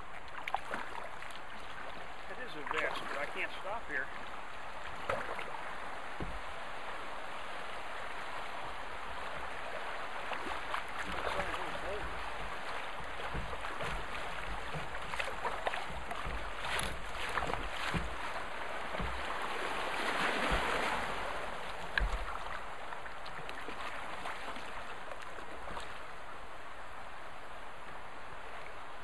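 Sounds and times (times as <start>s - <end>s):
river water rushing and splashing: 0.0s - 29.0s.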